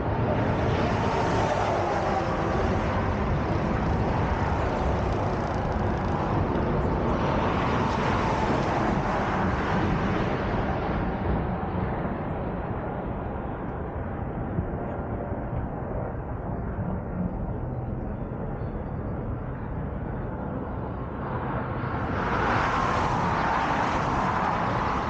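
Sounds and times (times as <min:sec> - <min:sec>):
traffic tyre and engine noise: 0:00.0 - 0:17.3, 0:19.8 - 0:25.0.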